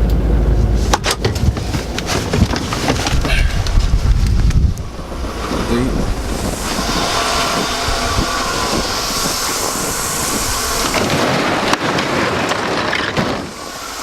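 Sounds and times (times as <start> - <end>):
vehicle rumbling on the move: 0.0 - 13.8.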